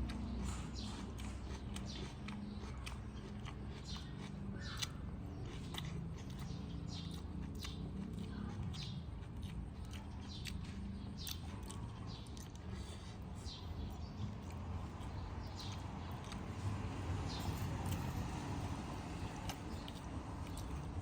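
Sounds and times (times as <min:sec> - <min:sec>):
person chewing and eating: 0:00.0 - 0:21.0.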